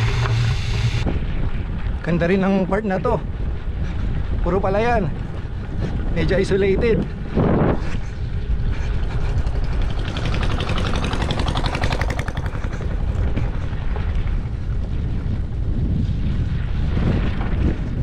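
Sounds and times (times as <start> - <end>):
bike tyres rumbling on gravel: 0.0 - 18.0
wind buffeting microphone: 0.0 - 18.0.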